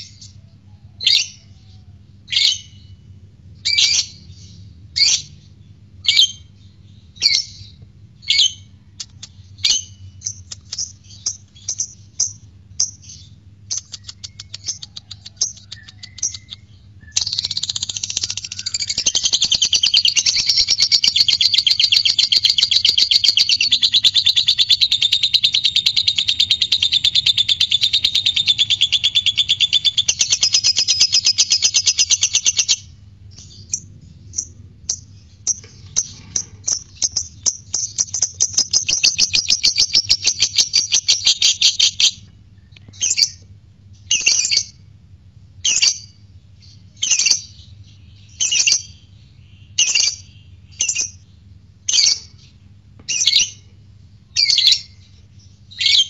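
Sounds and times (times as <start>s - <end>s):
lovebird high-pitched chatter: 7.2s - 43.4s, 44.0s - 44.8s, 45.6s - 51.2s, 51.9s - 53.7s, 54.4s - 56.0s.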